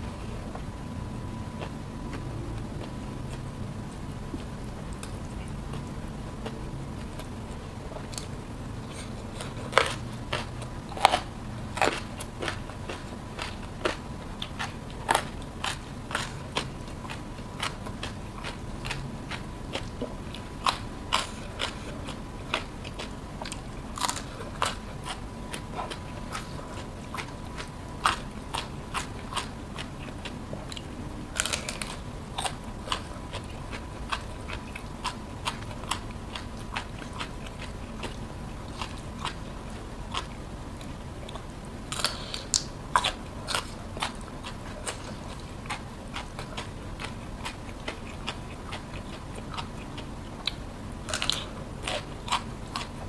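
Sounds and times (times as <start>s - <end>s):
crisp vegetable bites and chewing: 8.0s - 53.0s.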